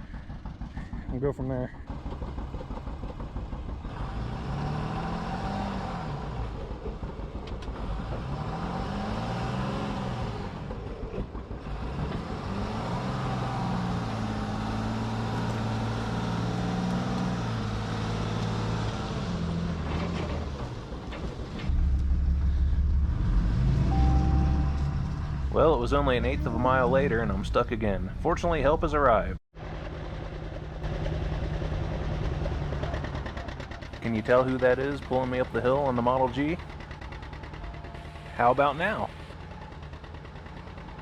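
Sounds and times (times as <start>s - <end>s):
diesel truck engine revving: 1.8s - 41.0s.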